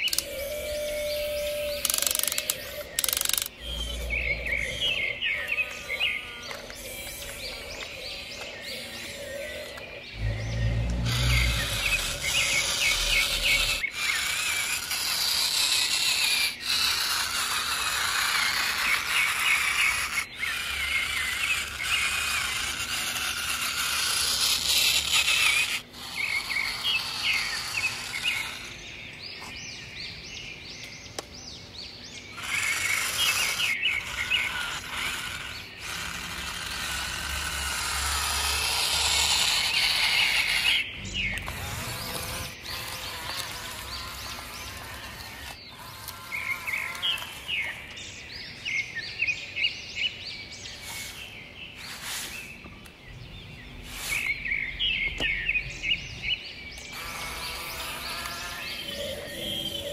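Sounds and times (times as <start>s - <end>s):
small birds chirping: 0.0s - 59.9s
steady outdoor hiss: 0.0s - 59.9s.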